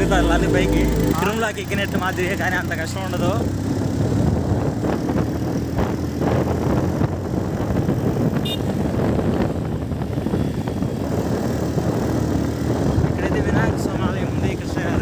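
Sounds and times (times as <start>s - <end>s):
motorcycle engine running: 0.0s - 13.0s
road noise: 0.0s - 15.0s
wind: 0.0s - 15.0s.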